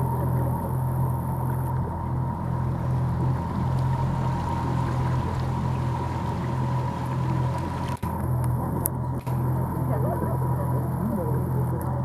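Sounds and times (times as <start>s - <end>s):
boat engine humming: 0.0s - 12.0s
water rushing past hull: 0.0s - 12.0s.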